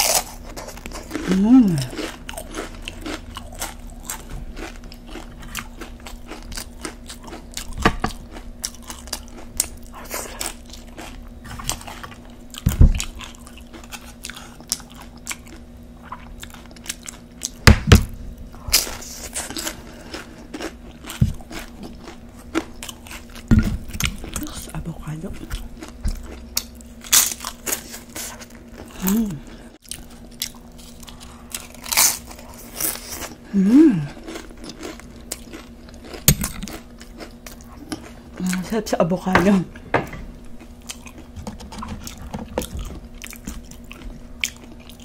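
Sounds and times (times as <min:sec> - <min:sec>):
tortilla chips crunching: 0:00.0 - 0:17.6, 0:18.6 - 0:38.7.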